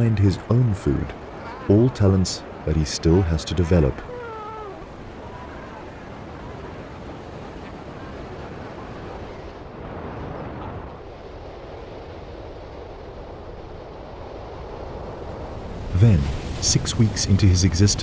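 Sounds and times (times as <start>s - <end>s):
ocean surf: 0.0s - 18.0s
wind: 0.0s - 18.0s.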